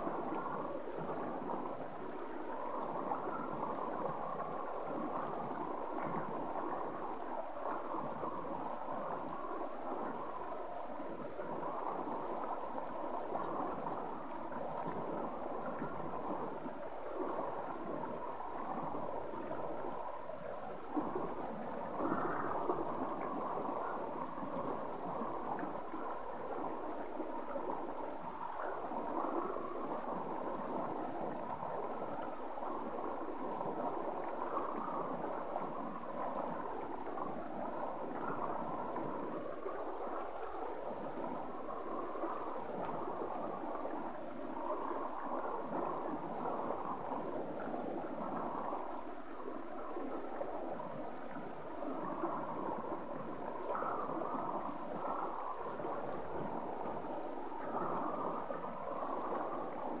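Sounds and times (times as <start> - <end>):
stream running over stones: 0.0 - 60.0.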